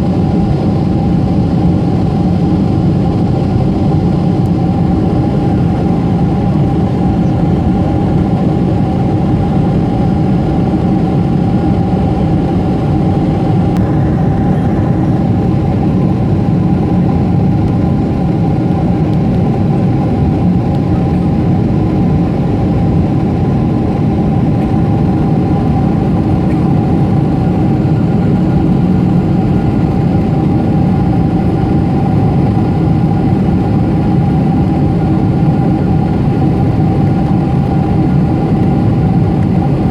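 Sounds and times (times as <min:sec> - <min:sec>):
aircraft cabin hum: 0:00.0 - 0:39.9.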